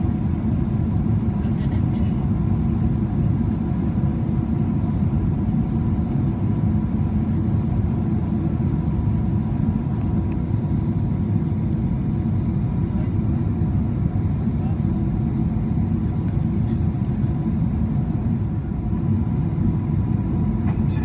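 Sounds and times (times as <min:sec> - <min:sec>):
airplane cabin roar: 0:00.0 - 0:21.0
faint steady whine: 0:00.0 - 0:21.0
jet engines humming: 0:00.0 - 0:21.0.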